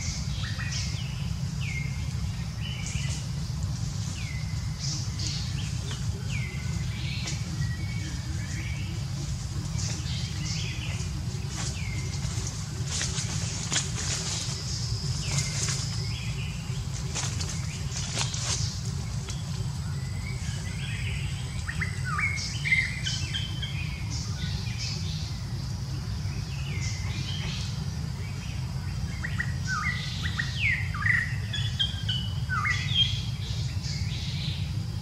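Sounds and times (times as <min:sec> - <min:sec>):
small birds chirping: 0:00.0 - 0:35.0
steady low rumble: 0:00.0 - 0:35.0.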